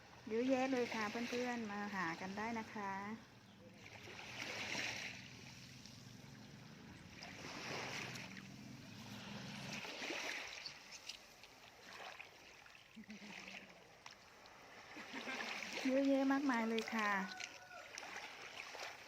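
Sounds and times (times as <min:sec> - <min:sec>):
small waves on sandy beach: 0:00.0 - 0:19.0.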